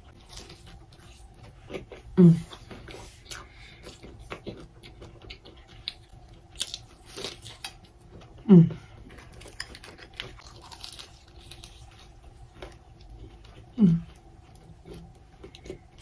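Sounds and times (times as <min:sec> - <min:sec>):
chewing and crunching: 0:00.0 - 0:16.0.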